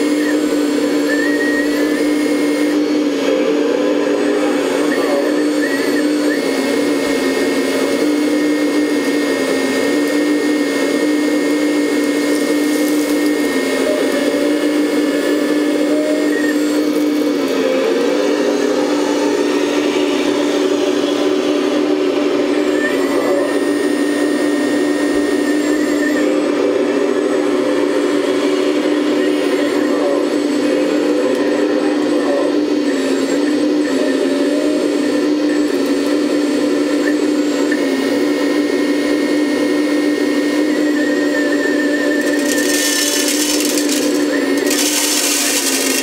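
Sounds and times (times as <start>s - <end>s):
electric hydraulic pump whining: 0.0s - 46.0s.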